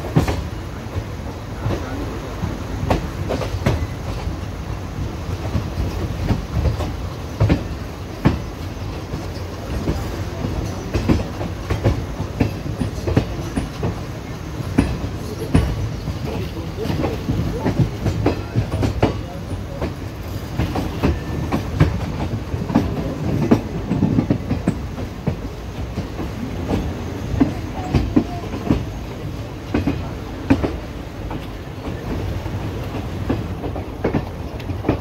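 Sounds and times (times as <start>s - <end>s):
train wheels rumbling on rails: 0.0s - 35.0s
wheels clacking over rail joints: 5.0s - 35.0s.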